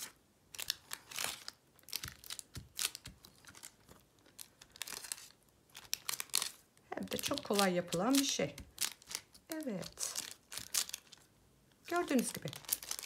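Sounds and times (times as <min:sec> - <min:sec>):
sticky tape crackling off paper: 0:00.0 - 0:11.3, 0:11.9 - 0:13.0.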